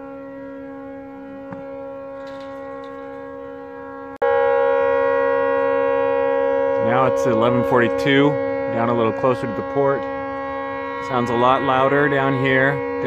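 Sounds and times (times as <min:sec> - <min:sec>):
fog horn continuous note: 0:00.0 - 0:13.0.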